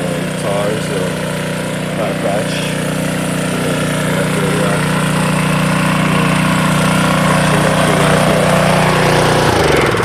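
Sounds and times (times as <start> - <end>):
pressure washer engine running: 0.0 - 10.0.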